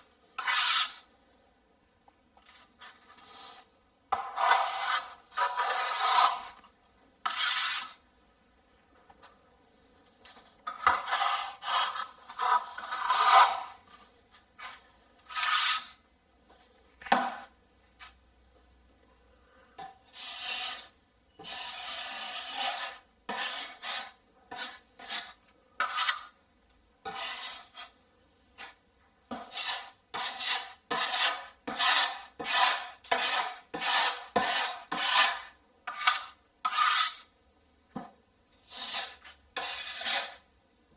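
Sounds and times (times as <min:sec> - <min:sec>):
tool scraping plasterboard wall: 0:00.0 - 0:01.1, 0:02.4 - 0:08.0, 0:10.3 - 0:18.2, 0:19.8 - 0:26.4, 0:27.0 - 0:28.0, 0:28.6 - 0:40.5.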